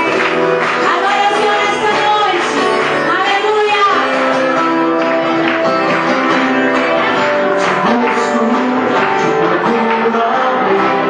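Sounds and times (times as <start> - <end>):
gospel band playing: 0.0 - 11.0
guitar: 0.0 - 11.0.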